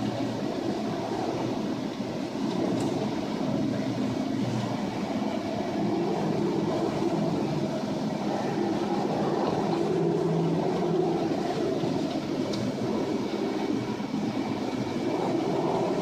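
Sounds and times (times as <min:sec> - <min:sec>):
ship rumble in heavy seas: 0:00.0 - 0:16.0.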